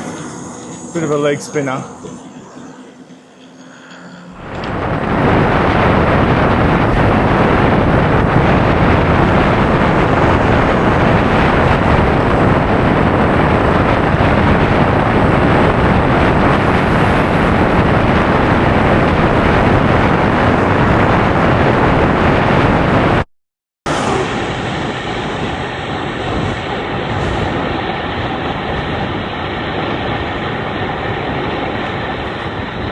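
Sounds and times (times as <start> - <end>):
wind rushing over microphone: 0.0 - 23.3, 23.9 - 32.9.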